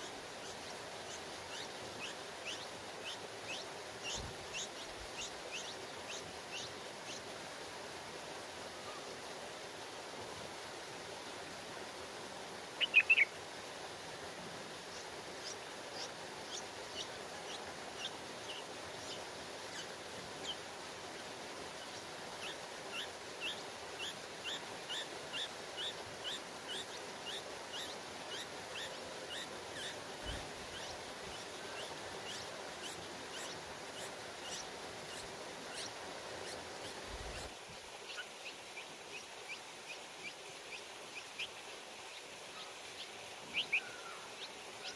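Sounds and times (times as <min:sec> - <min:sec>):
nestlings peeping: 0:00.0 - 0:07.2, 0:12.8 - 0:13.3, 0:14.9 - 0:37.5, 0:38.1 - 0:41.5, 0:42.6 - 0:44.9
steady hiss: 0:00.0 - 0:44.9.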